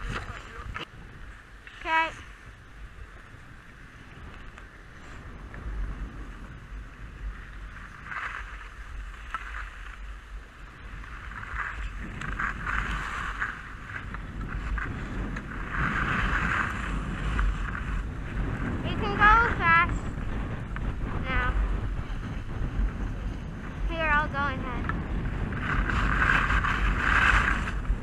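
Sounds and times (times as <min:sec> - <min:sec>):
skis scraping on snow: 0:00.0 - 0:28.0
wind on microphone: 0:00.0 - 0:28.0.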